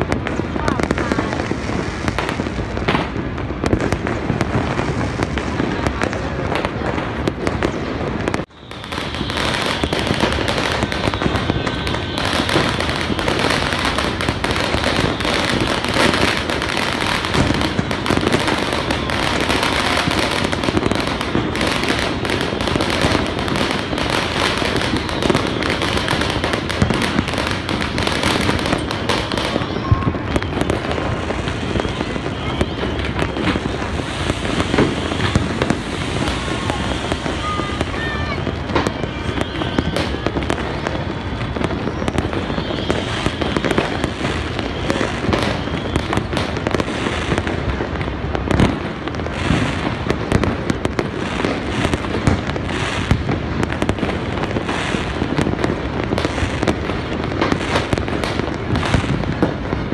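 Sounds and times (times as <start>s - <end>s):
fireworks crackling and banging: 0.0s - 59.9s.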